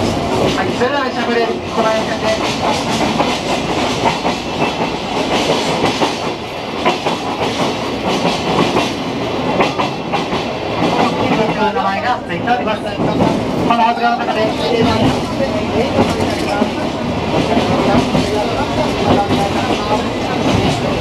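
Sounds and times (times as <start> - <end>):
train carriage rumbling on rails: 0.0 - 21.0.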